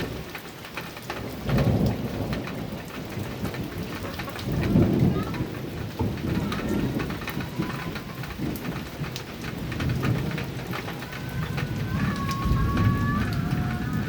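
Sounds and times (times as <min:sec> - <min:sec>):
heavy rain on a metal roof: 0:00.0 - 0:14.0
thunder rumble: 0:01.0 - 0:14.0.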